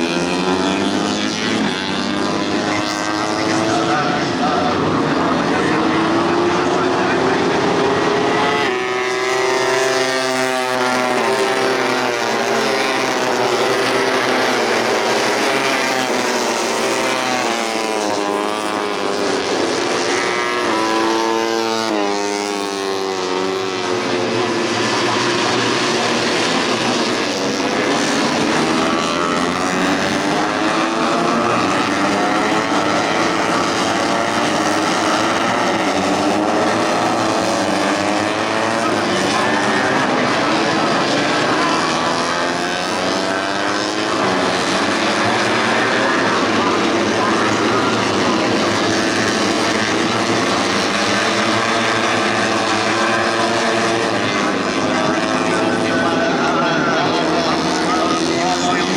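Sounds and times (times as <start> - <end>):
racing motorcycles revving: 0.0 - 58.9.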